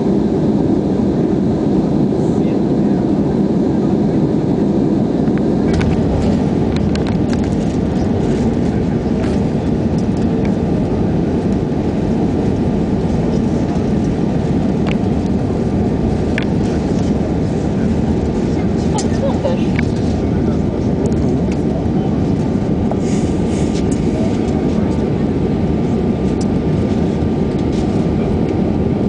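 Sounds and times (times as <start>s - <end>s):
jet cabin engine roar: 0.0s - 29.0s.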